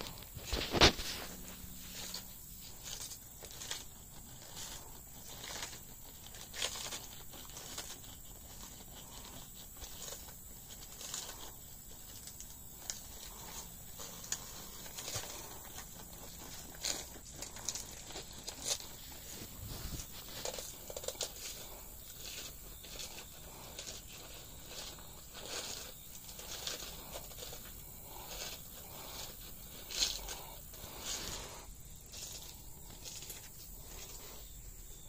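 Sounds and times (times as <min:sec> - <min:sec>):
tortoise crunching lettuce: 0:00.0 - 0:35.0.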